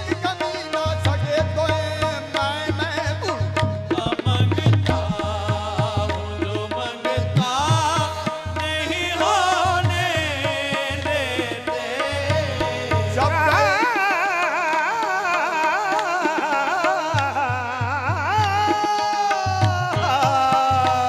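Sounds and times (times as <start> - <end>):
harmonium chords: 0.0 - 21.0
qawwali singing voices: 0.0 - 21.0.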